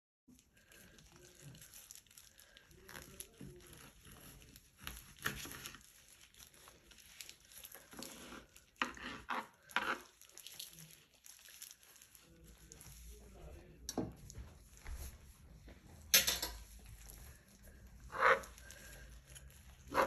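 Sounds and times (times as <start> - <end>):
crinkling and tearing of skin and gloves: 0.3 - 20.0.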